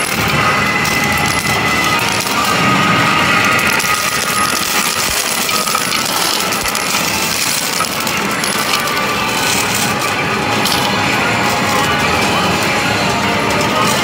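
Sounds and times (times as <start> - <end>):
arcade machine music: 0.0 - 14.0
metal tokens clattering: 0.0 - 14.0.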